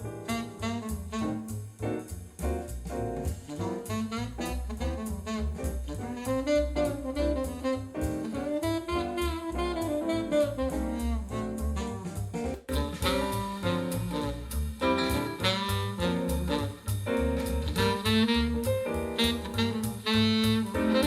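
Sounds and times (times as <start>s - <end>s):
bass: 0.0s - 21.0s
drums: 0.0s - 21.0s
saxophone: 0.2s - 1.6s, 3.4s - 21.0s.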